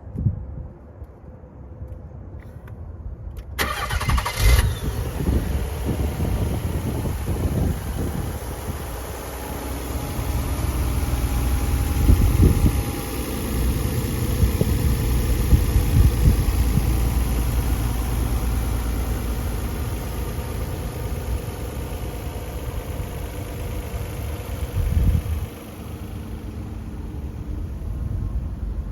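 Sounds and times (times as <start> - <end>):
car engine idling: 3.6 - 28.9.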